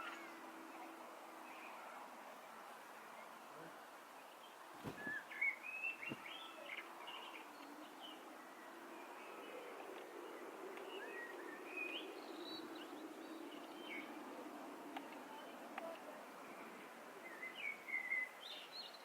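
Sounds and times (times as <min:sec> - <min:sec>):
outdoor background noise: 0:00.0 - 0:19.0
birds chirping: 0:03.2 - 0:19.0.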